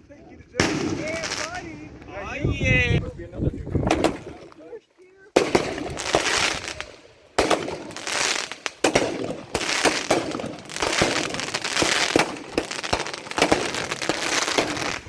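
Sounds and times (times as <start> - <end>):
fireworks bangs with crackling hiss: 0.5 - 2.0, 3.8 - 4.8, 5.4 - 15.0.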